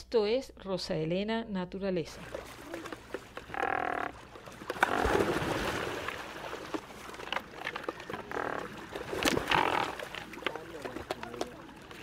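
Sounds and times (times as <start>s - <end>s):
pelicans splashing into water: 2.2s - 12.0s.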